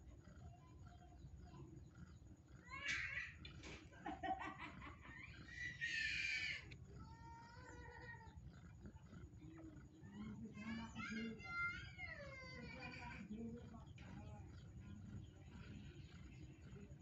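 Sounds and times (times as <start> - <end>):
newborn kittens mewing: 0.2 - 3.9, 4.7 - 17.0.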